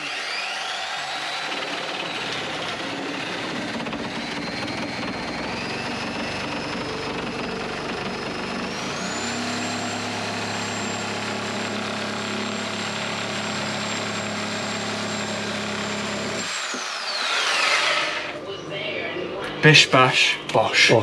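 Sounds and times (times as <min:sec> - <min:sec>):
reciprocating saw cutting timber: 0:00.0 - 0:18.4.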